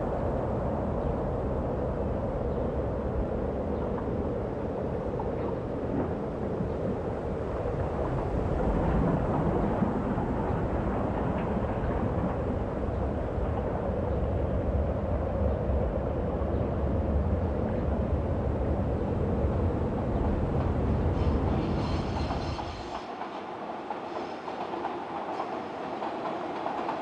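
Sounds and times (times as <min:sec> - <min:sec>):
city traffic rumble: 0:00.0 - 0:27.0
elevated train rumble: 0:00.0 - 0:27.0.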